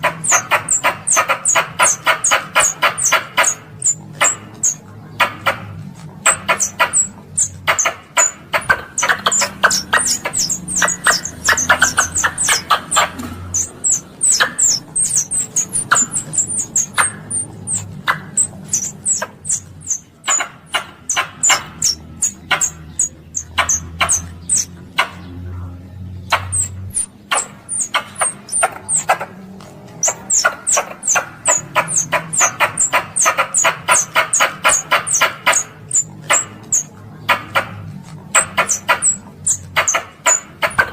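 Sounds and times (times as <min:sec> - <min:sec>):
squirrel chirping: 0:00.0 - 0:40.9.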